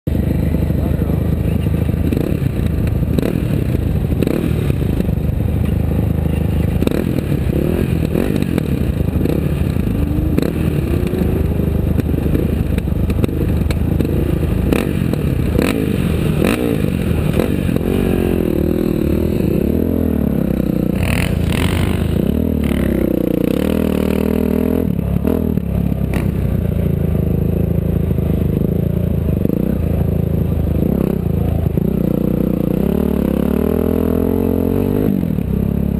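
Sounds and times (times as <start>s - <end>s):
vehicle engine running: 0.1s - 35.9s.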